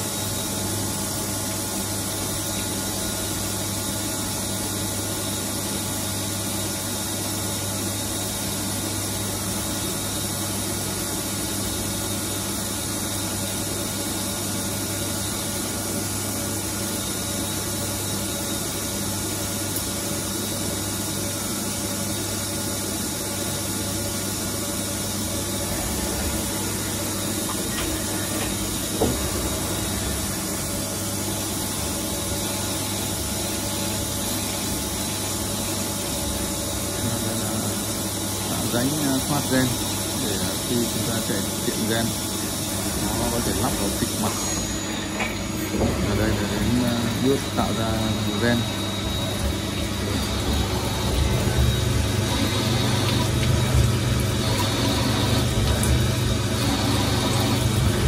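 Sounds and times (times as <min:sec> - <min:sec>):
lathe machine hum and whine: 0:00.0 - 0:58.0.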